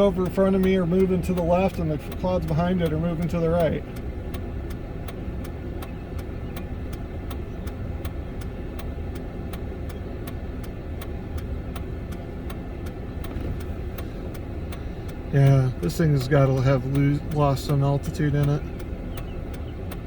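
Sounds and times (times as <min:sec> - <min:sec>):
even ticking: 0:00.0 - 0:20.0
vehicle engine idling: 0:00.0 - 0:20.0.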